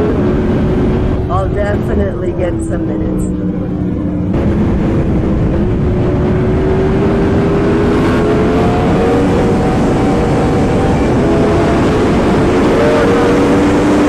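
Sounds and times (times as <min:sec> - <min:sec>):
motorcycle engine running hard: 0:00.0 - 0:14.0
wind noise: 0:00.0 - 0:14.0.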